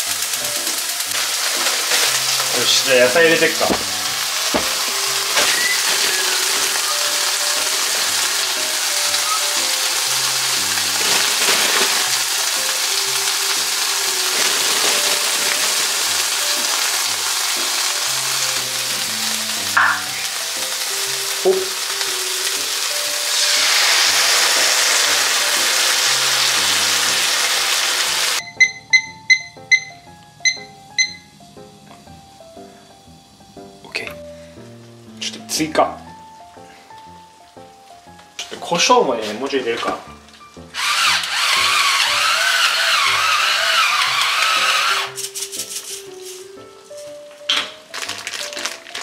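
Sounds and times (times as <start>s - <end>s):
chicken frying in oil: 0.0s - 28.4s, 35.1s - 47.1s, 47.8s - 49.0s
soft background music: 0.0s - 49.0s.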